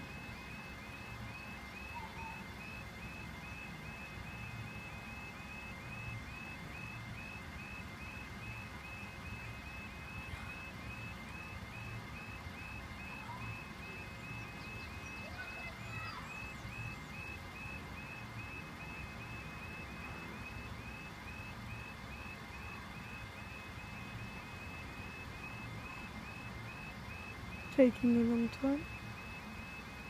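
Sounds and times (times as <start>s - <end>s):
level crossing alarm beeping: 0.0s - 30.0s.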